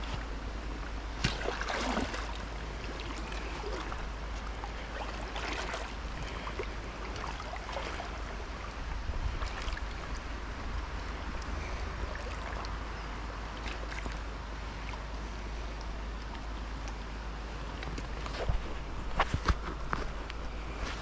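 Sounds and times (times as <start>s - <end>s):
river water flowing and lapping: 0.0s - 21.0s
water splashes: 0.0s - 21.0s.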